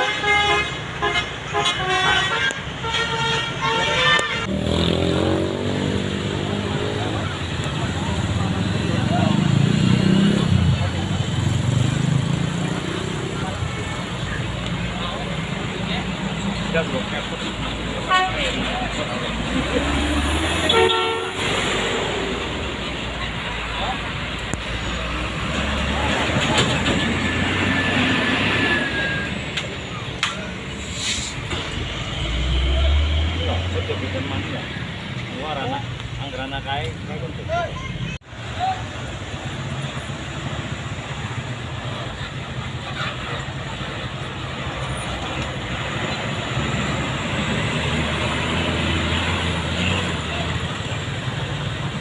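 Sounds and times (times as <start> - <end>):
roadside traffic noise: 0.0 - 52.0
heavy vehicle passing: 3.4 - 37.4, 38.0 - 52.0.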